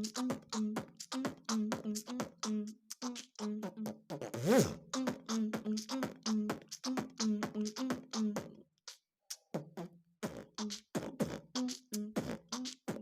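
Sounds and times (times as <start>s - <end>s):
beatboxing mouth percussion: 0.0s - 13.0s.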